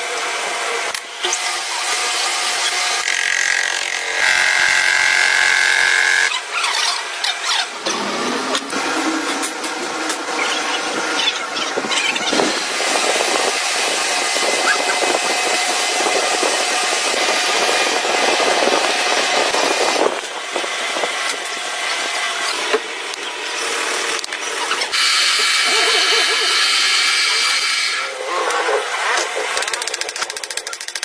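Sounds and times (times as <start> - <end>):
power tool whining: 1.2 - 31.0.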